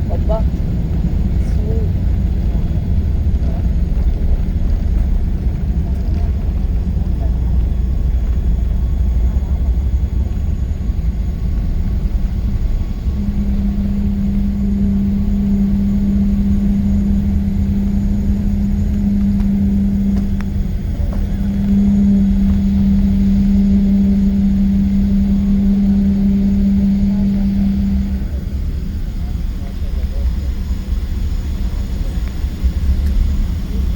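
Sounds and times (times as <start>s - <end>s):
aircraft cabin engine rumble: 0.0s - 33.9s
constant low hum: 0.0s - 33.9s.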